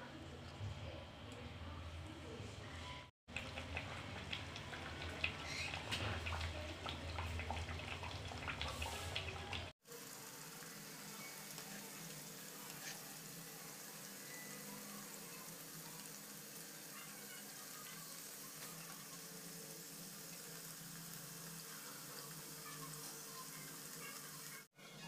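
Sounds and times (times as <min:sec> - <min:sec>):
dough deep-frying in hot oil: 0:03.3 - 0:24.7
small crackles of frying oil: 0:03.3 - 0:24.7.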